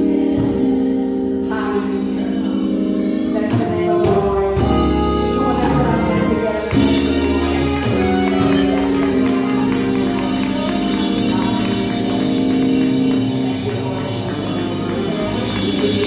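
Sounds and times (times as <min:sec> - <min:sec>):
gospel music: 0:00.0 - 0:16.0.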